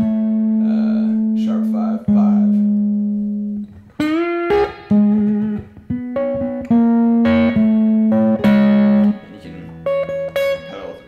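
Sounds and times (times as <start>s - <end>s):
slide electric guitar lick: 0.0s - 11.0s.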